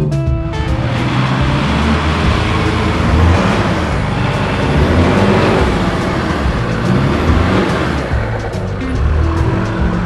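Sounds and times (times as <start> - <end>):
music playing: 0.0 - 10.0
vehicle engine running: 0.0 - 10.0.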